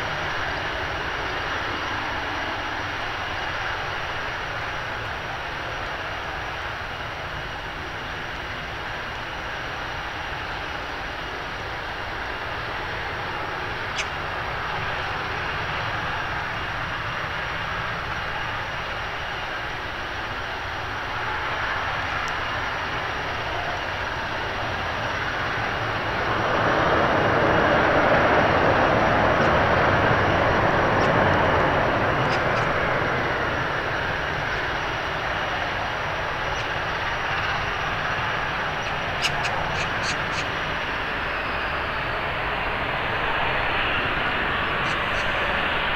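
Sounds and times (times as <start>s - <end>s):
faint high whine: 0.0s - 45.9s
jet engines rushing: 0.0s - 45.9s.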